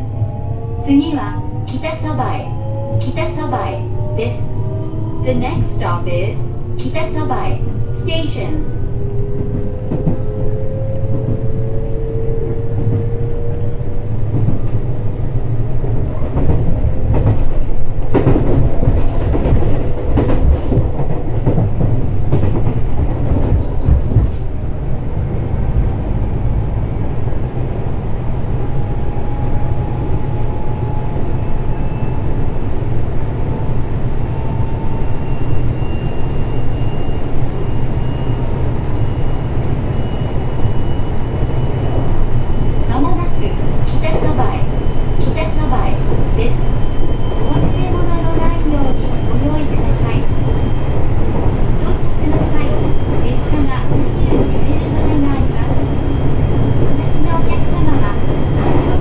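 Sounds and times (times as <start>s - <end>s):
train wheels rumbling on rail: 1.0s - 59.0s.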